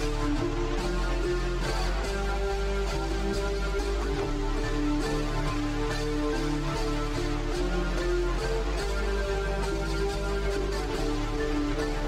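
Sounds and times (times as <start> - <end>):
synth chords over bass line: 0.0 - 12.0.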